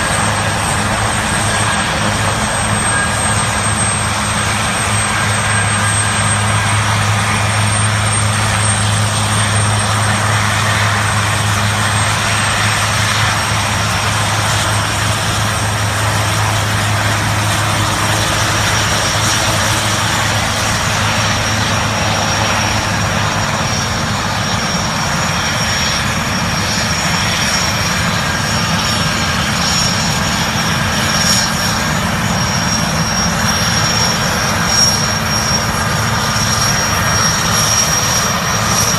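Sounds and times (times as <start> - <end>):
helicopter engines and rotors: 0.0 - 38.9
high turbine whine: 0.0 - 38.9.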